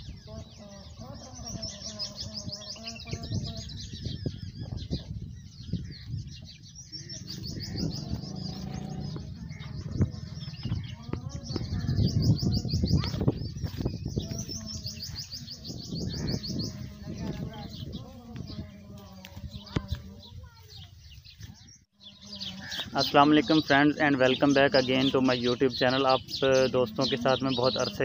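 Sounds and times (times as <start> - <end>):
birds trilling: 0.0 - 28.0.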